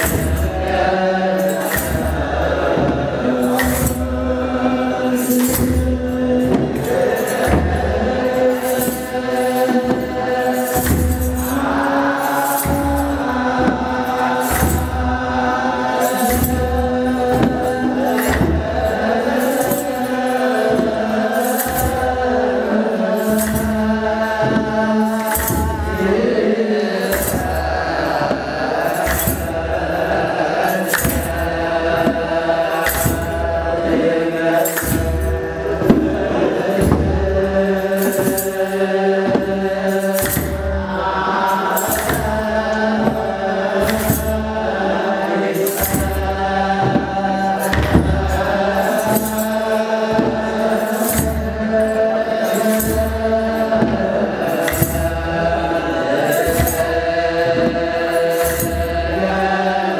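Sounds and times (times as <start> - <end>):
drum beats: 0.0 - 59.9
men chanting in unison: 0.0 - 59.9
sistra jingling: 0.0 - 59.9.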